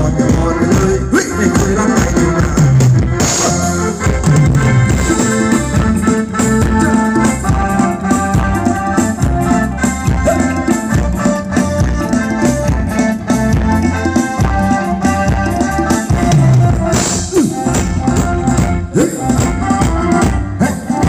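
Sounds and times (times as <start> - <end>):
drum kit beat: 0.0 - 21.0
keyboard melody: 0.0 - 21.0.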